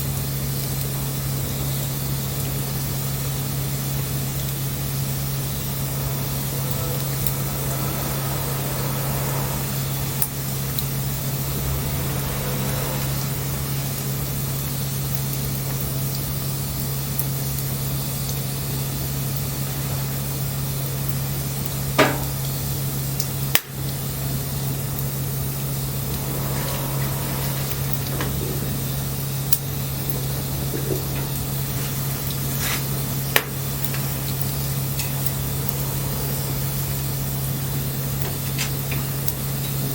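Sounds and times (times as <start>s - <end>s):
bonfire hissing: 0.0s - 39.9s
low hum: 2.2s - 39.8s.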